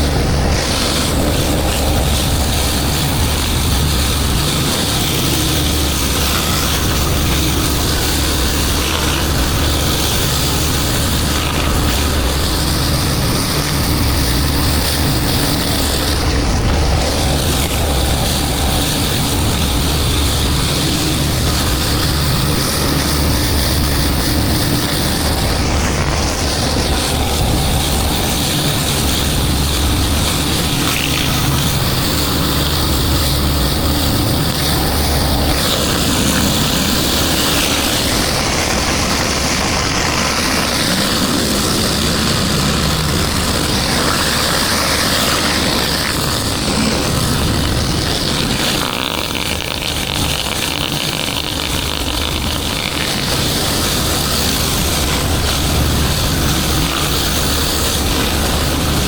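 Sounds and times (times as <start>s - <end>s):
high-pressure water spray hiss: 0.0s - 59.0s
pressure washer engine running: 0.0s - 59.0s.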